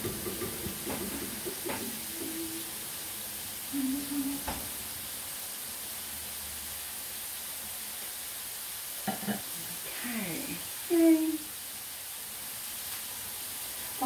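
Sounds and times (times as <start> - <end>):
chips sizzling in oil: 0.0 - 14.0.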